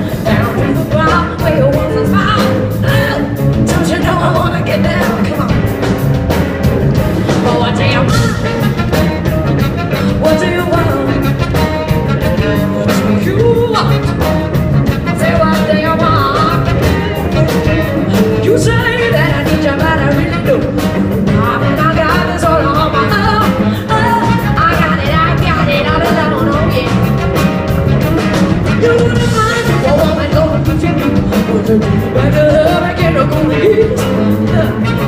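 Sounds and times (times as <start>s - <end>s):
live rock band playing: 0.0s - 35.0s
melodic lead line: 0.0s - 35.0s
steady drum beat: 0.0s - 35.0s.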